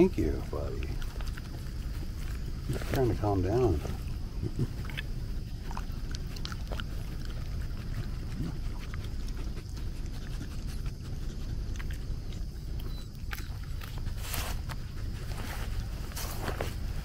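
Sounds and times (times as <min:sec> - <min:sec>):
dog panting: 0:00.0 - 0:16.1.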